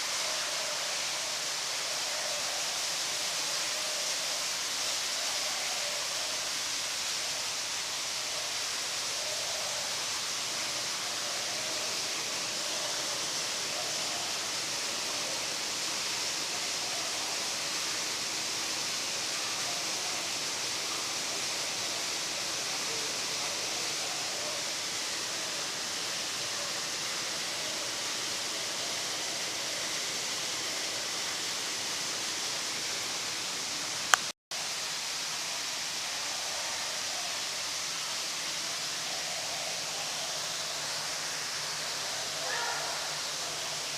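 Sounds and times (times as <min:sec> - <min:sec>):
steady rushing water noise: 0:00.0 - 0:43.9.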